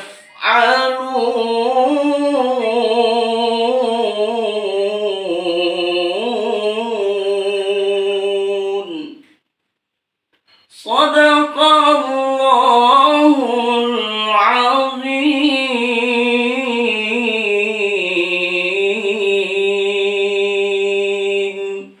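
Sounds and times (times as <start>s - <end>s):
man reciting melodically: 0.0s - 9.4s, 10.6s - 22.0s.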